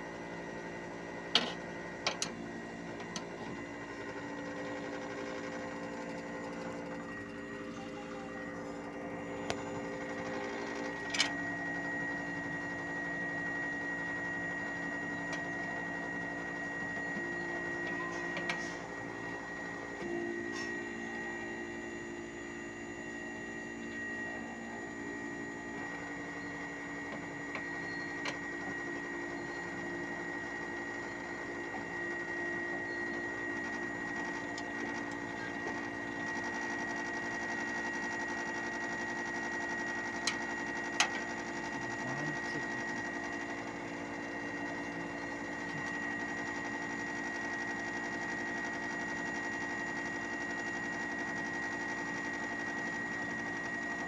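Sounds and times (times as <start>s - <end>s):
air conditioner humming and whining: 0.0s - 54.0s.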